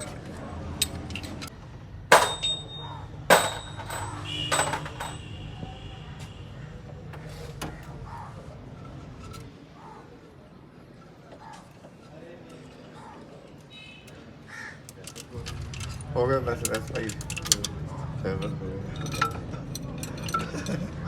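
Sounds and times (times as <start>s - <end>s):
metal tools clanking: 0.0s - 5.5s, 7.1s - 9.6s, 10.9s - 21.0s.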